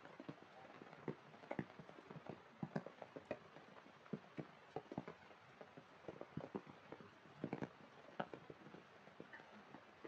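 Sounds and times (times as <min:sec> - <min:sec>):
faint rain hiss: 0:00.0 - 0:10.0
rain pattering on puddles: 0:00.0 - 0:10.0.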